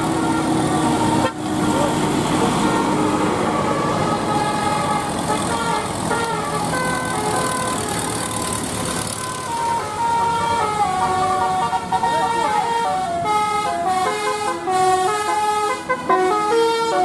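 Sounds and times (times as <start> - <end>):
multi-tone bus horn playing a tune: 0.0 - 17.0
traffic noise: 0.0 - 17.0.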